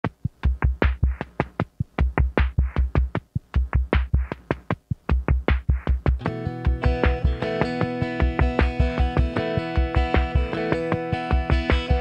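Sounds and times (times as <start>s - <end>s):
electronic drum beat: 0.0s - 12.0s.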